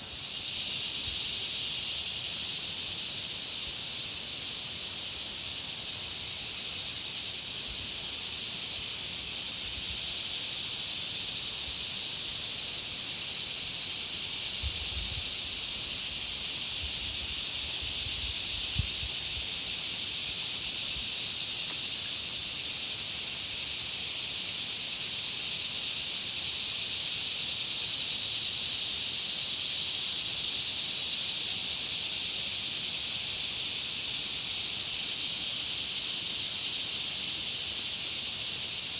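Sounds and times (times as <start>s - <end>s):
insects buzzing chorus: 0.0s - 38.9s.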